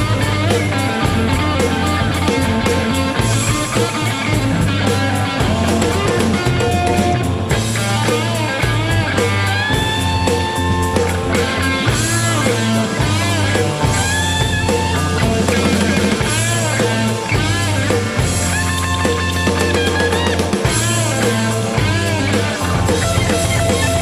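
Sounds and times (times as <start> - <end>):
electric guitar bending lead notes: 0.0 - 24.0
rock band playing: 0.0 - 24.0.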